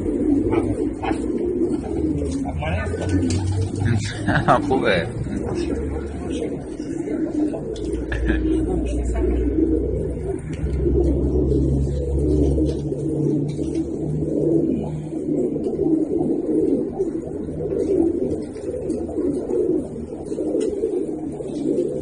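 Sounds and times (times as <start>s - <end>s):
low steady hum: 0.0s - 22.0s
pigeons cooing: 0.0s - 22.0s.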